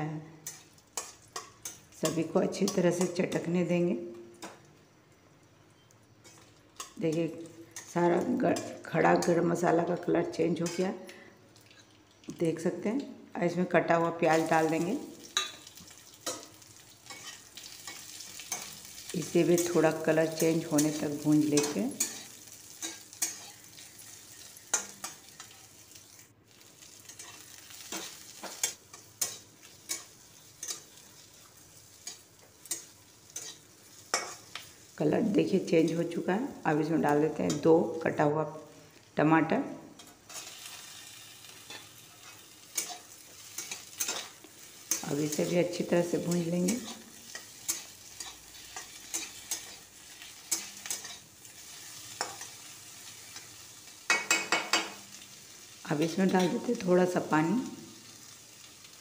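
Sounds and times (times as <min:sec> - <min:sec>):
onions sizzling in oil: 0:00.0 - 0:10.9, 0:11.5 - 0:59.0.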